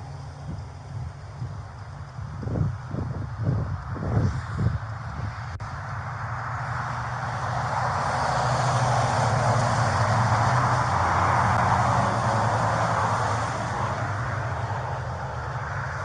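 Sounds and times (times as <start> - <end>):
car engine hum: 0.0 - 16.0
road and wind noise: 0.0 - 16.0.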